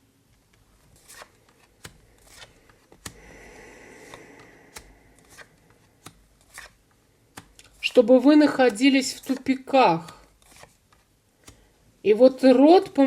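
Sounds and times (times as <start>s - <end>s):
cards clicking and snapping: 0.5s - 8.0s, 8.6s - 11.7s
cards shuffling rustle: 0.5s - 11.7s.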